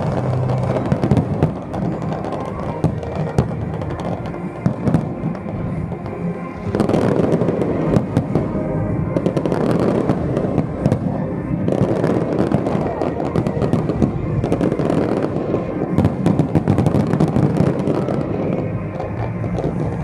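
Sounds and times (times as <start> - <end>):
fireworks bursting: 0.0 - 20.0
music playing: 0.0 - 20.0.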